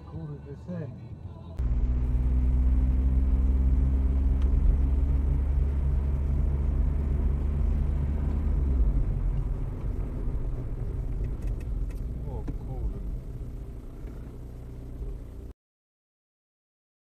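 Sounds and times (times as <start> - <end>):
car engine and road noise: 0.0 - 15.6.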